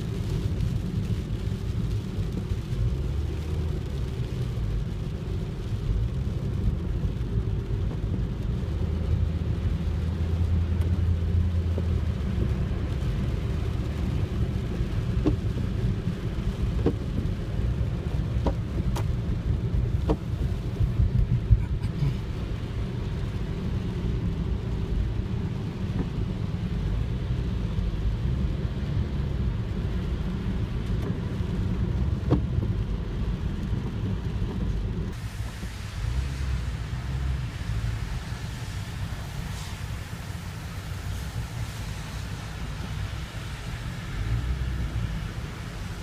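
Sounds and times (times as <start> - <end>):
rain falling: 0.0 - 46.0
steady low rumble: 0.0 - 46.0.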